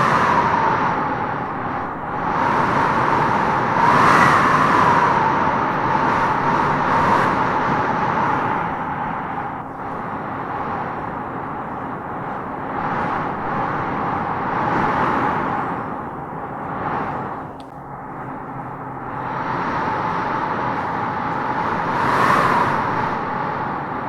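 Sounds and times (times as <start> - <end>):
wind howling through trees: 0.0 - 24.0.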